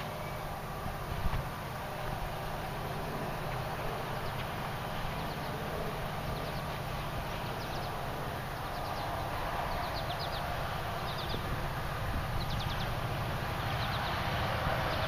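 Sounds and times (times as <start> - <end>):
outdoor background noise with hum: 0.0 - 15.0.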